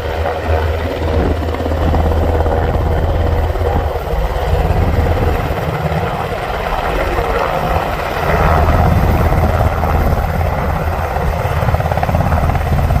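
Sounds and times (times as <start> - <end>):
helicopter engines rushing: 0.0 - 13.0
helicopter rotor beating: 0.0 - 13.0.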